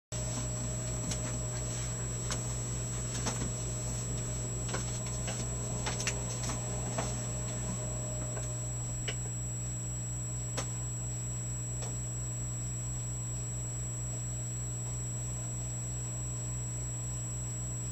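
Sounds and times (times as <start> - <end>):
electrical hum with whine: 0.1 - 17.9.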